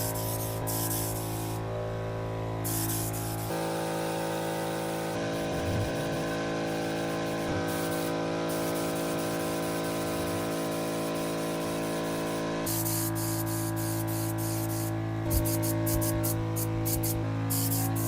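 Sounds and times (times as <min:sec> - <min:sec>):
spray gun hissing: 0:00.0 - 0:01.6, 0:02.6 - 0:18.0.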